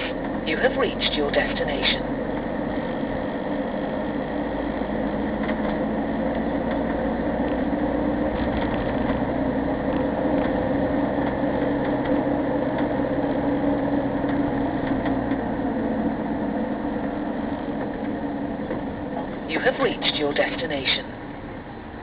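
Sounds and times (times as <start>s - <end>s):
vehicle engine and road hum: 0.0s - 22.0s.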